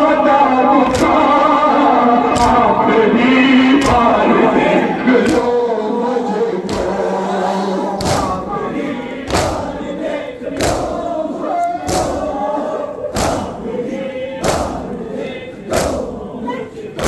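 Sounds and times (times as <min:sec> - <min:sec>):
crowd beating chests in unison: 0:00.0 - 0:17.0
men chanting: 0:00.0 - 0:17.0.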